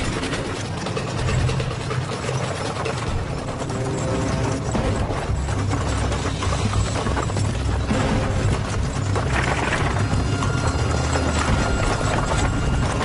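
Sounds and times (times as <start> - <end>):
background music: 0.0 - 13.0
carriage rattling: 0.0 - 13.0
fast hoofbeats: 0.0 - 13.0.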